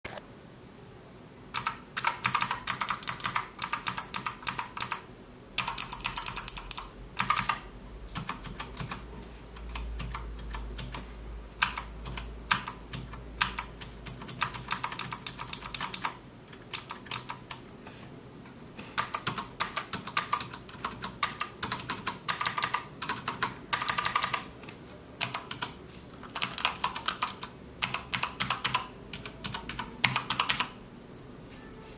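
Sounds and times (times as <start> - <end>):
typing on mechanical keyboard: 1.5 - 17.6, 19.0 - 24.5, 25.2 - 30.8.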